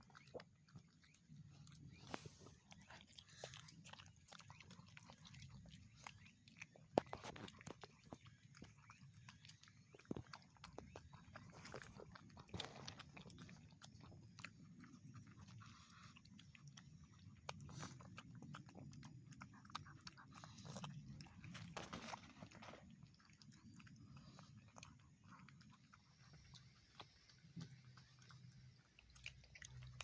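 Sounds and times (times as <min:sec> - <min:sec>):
dog crunching and chewing food: 0:00.0 - 0:30.0.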